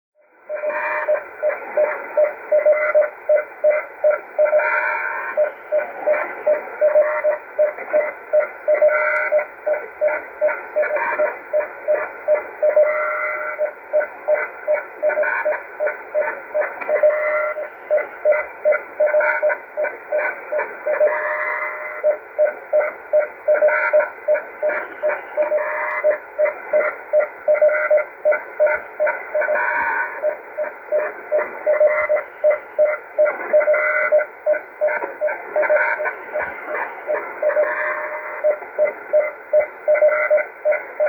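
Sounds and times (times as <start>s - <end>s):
keyed radio tone pulses: 0.2s - 41.0s
radio band noise hiss: 0.2s - 41.0s.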